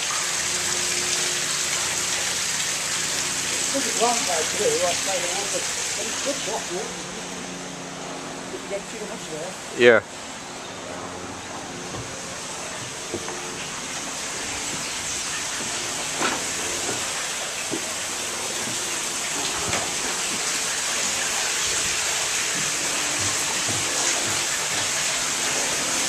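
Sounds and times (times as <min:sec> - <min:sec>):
rush of flowing water: 0:00.0 - 0:26.0.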